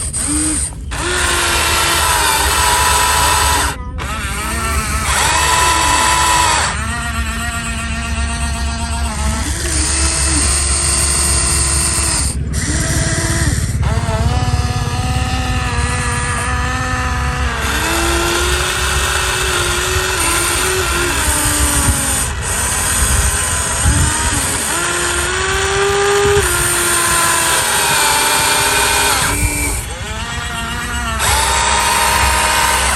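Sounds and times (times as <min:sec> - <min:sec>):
small electric motors whining: 0:00.0 - 0:32.9
steady low hum: 0:00.0 - 0:32.9.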